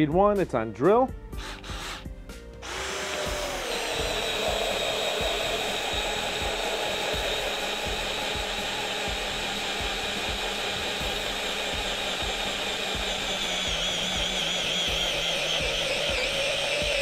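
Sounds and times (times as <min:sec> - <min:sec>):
cordless drill motor whine: 0:01.4 - 0:17.0.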